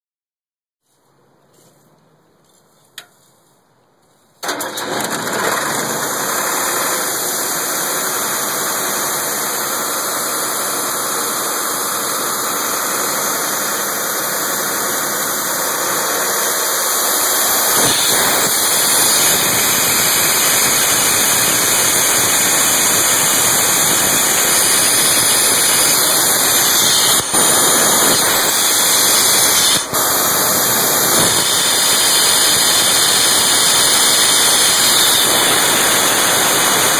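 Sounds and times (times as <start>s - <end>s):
compressor diesel engine running: 4.4s - 36.9s.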